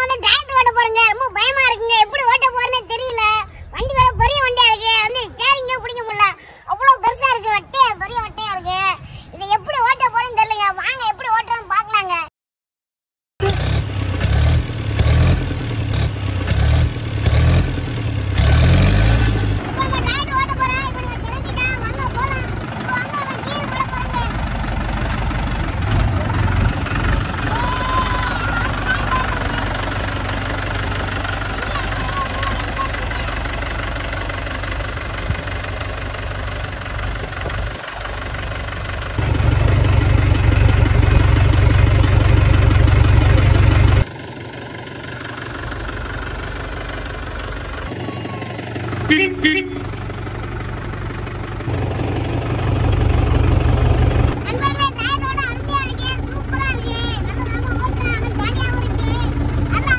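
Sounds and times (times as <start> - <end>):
tractor diesel engine running: 0.0 - 10.2, 13.4 - 59.9.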